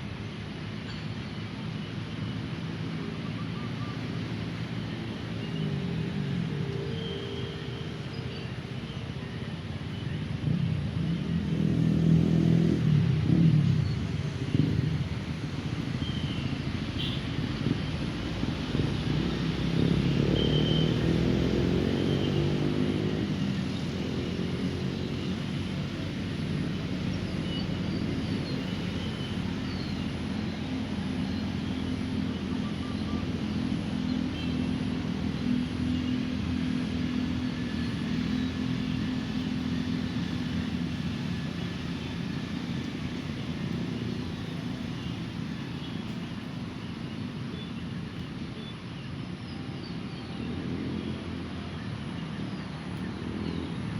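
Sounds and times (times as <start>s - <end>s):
steady engine hum: 0.0s - 53.9s
vehicles passing close by: 0.0s - 53.9s.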